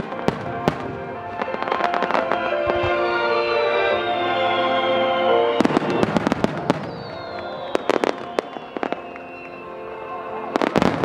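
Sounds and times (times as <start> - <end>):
fireworks crackling and popping: 0.0 - 9.9, 10.5 - 11.0
music: 0.0 - 11.0.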